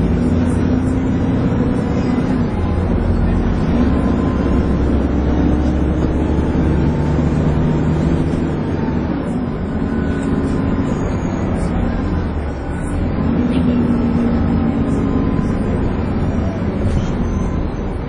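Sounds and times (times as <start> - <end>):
bus diesel engine rumbling: 0.0 - 18.0
engine whine: 0.0 - 18.0.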